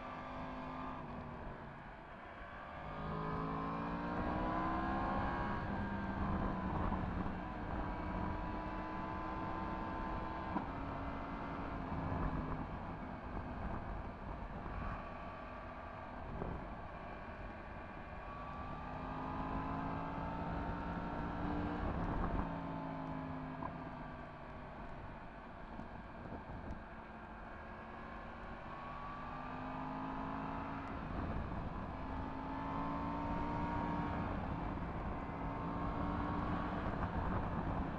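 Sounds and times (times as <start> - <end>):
road and wind noise: 0.0 - 37.9.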